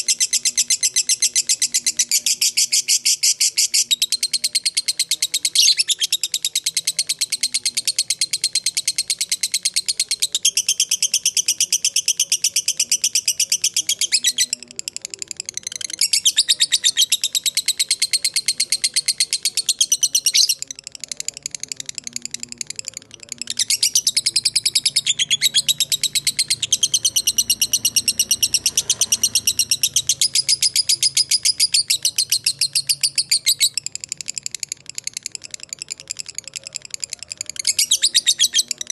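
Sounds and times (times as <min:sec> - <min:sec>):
lovebird chattering trills: 0:00.0 - 0:38.9.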